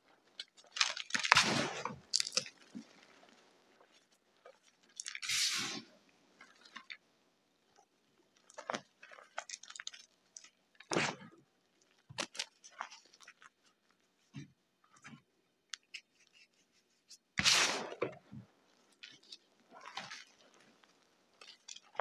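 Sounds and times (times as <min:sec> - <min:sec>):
gritty chalk crunches: 0:00.0 - 0:07.0, 0:08.4 - 0:14.4, 0:15.0 - 0:22.0.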